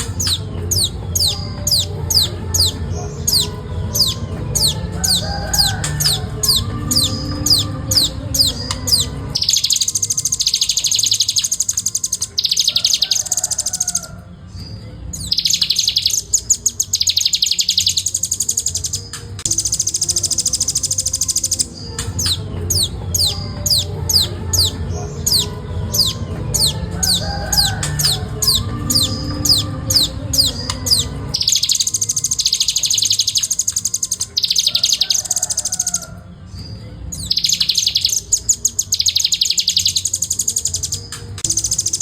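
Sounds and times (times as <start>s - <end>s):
bird singing trills: 0.0s - 42.0s.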